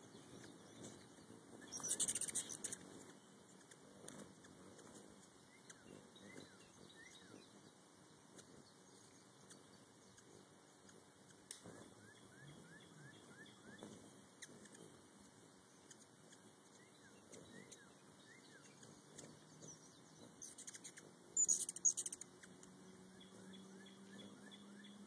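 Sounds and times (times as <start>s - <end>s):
hummingbird chittering chirps: 0.0s - 25.0s
hummingbird wing hum: 0.0s - 25.0s.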